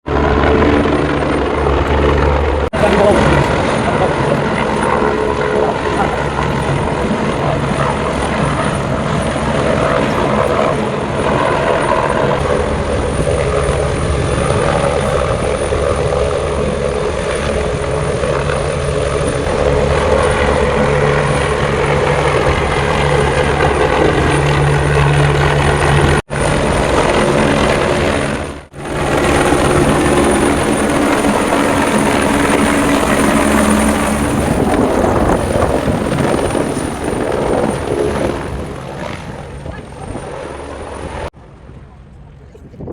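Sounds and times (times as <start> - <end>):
helicopter rotor and engine: 0.0 - 42.9.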